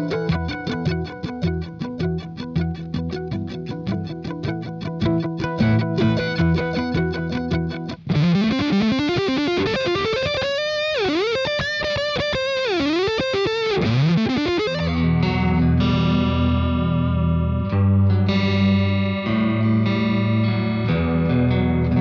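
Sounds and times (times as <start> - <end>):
distorted guitar chord: 0.0 - 22.0
electric guitar with fuzz pedal: 0.0 - 22.0.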